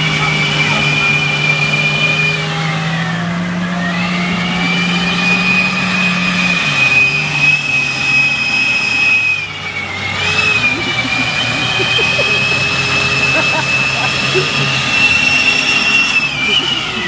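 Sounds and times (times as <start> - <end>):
engines at high revs: 0.0 - 17.0.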